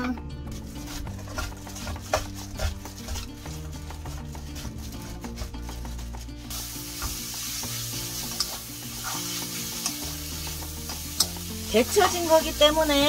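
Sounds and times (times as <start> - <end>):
wooden spoons stirring: 0.4 - 13.0
greens sizzling in oil: 0.5 - 13.0.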